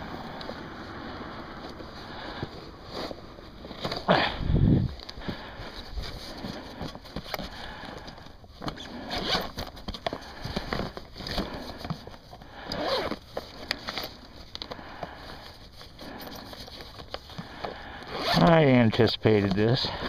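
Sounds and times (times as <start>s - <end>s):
gear rustling and clicking: 1.4s - 20.0s.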